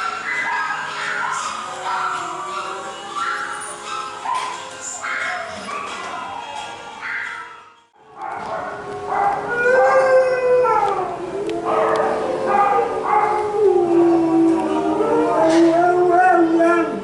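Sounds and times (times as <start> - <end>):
dogs howling: 0.0 - 17.0.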